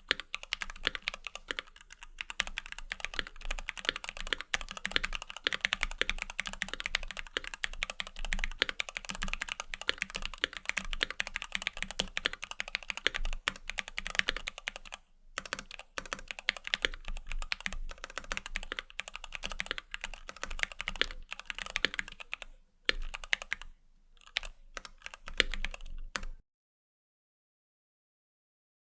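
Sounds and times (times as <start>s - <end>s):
fast keyboard typing: 0.0s - 26.4s.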